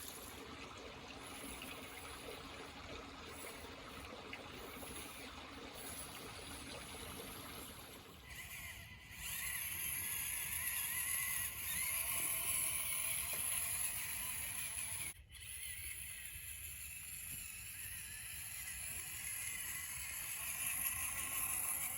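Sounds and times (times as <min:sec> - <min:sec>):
running water: 0:00.0 - 0:21.9
small electric motor whine: 0:00.0 - 0:21.9.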